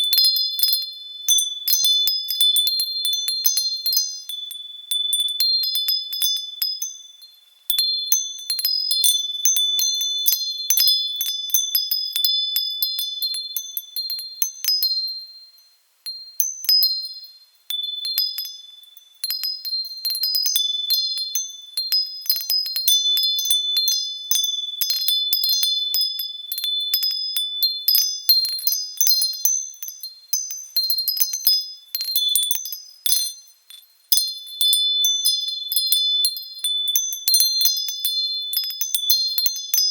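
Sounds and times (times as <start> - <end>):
wind chimes tinkling: 0.0 - 39.9.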